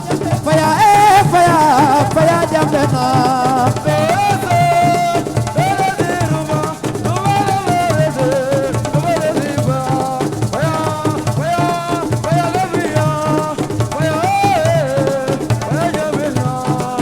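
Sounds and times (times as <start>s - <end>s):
driving drum beat: 0.0s - 17.0s
person singing: 0.0s - 17.0s.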